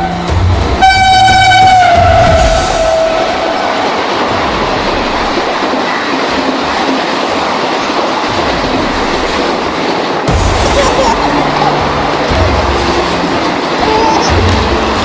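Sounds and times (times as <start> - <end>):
train rattling along track: 0.0 - 15.0.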